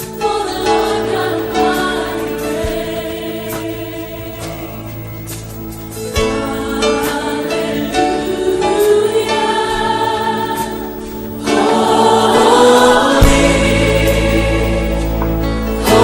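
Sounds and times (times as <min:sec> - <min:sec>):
group singing with instruments: 0:00.0 - 0:16.0.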